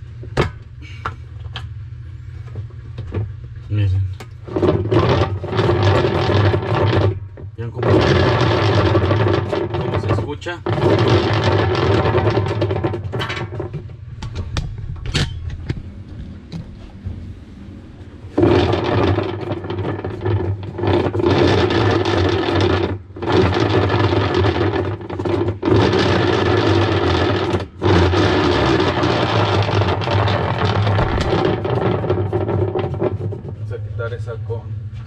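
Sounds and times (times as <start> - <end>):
washing machine whirring hum: 0.0 - 35.0.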